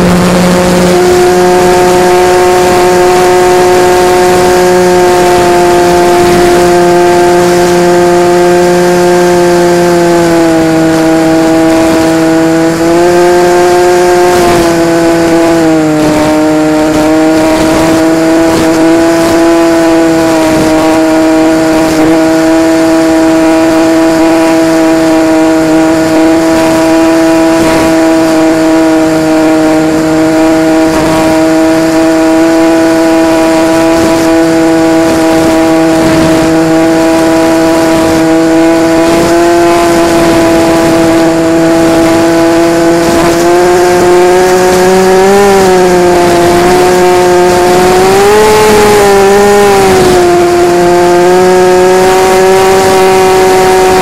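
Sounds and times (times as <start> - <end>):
model plane propeller droning: 0.0 - 54.0.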